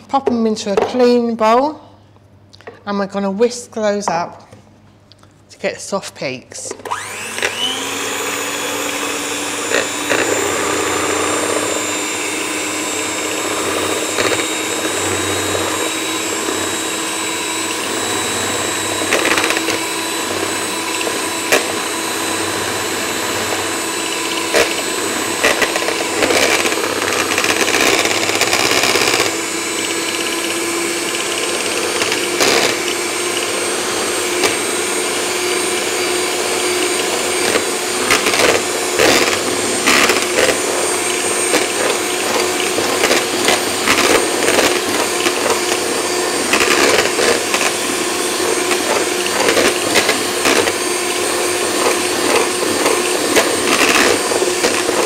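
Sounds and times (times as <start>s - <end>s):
electric hand mixer whisking: 6.8s - 55.0s.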